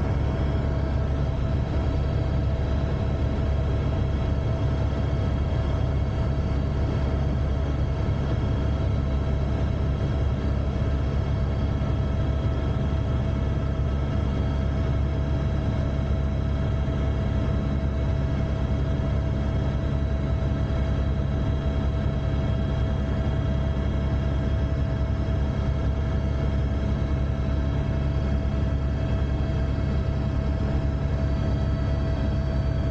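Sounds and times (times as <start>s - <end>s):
helicopter rumble: 0.0s - 32.9s
turbine whine: 0.0s - 32.9s.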